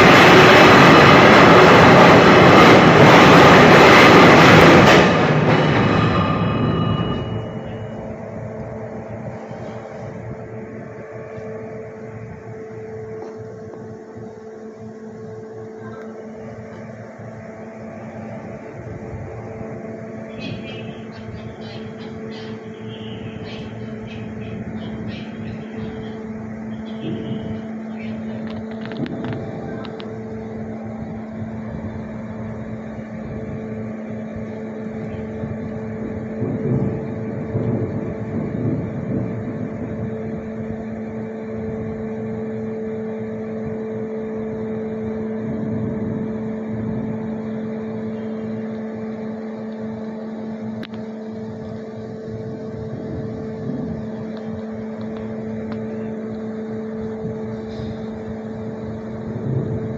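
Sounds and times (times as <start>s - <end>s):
anchoring machinery humming: 0.0s - 59.9s.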